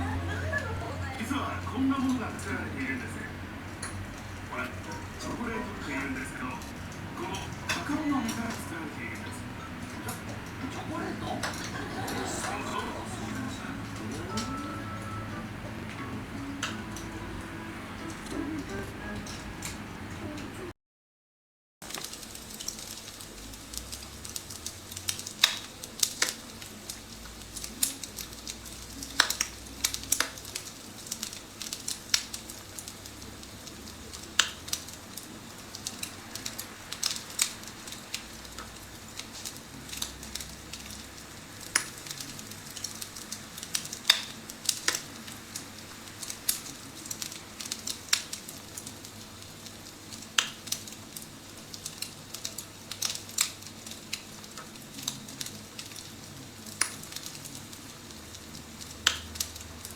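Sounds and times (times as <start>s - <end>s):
recorded wood fire crackling: 0.0s - 20.7s, 21.8s - 59.9s
steady low hiss: 0.0s - 20.7s, 21.8s - 59.9s.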